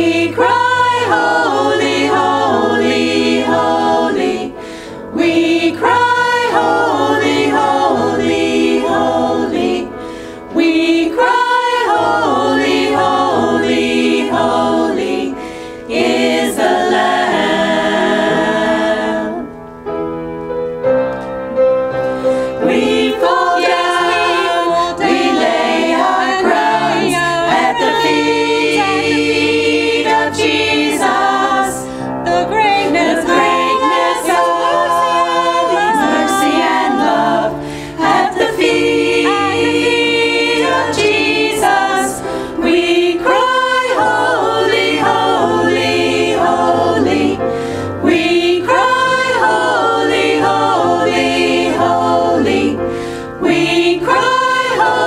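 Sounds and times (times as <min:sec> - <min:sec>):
women singing in harmony: 0:00.0 - 0:19.6, 0:22.4 - 0:55.0.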